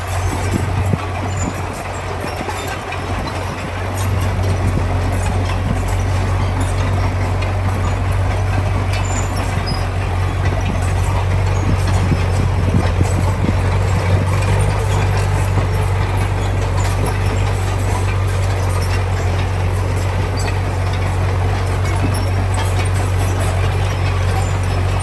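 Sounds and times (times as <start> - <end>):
diesel machinery droning: 0.0 - 25.0
metal clanks and rattles: 0.0 - 25.0.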